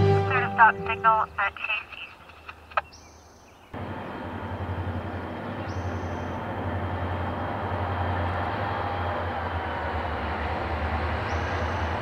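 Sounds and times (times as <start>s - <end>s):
diesel locomotive drone: 0.0s - 12.0s.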